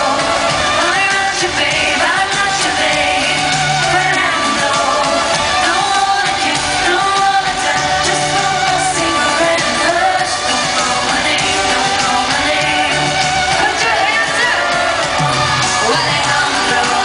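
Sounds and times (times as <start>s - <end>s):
dance-pop backing track: 0.0s - 17.0s
woman singing live: 0.0s - 17.0s.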